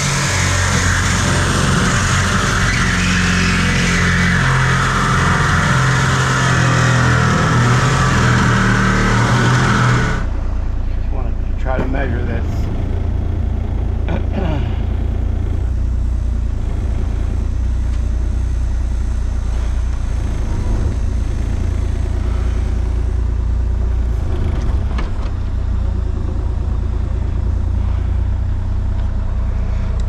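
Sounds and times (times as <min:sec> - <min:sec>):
large engine running: 0:00.0 - 0:30.0.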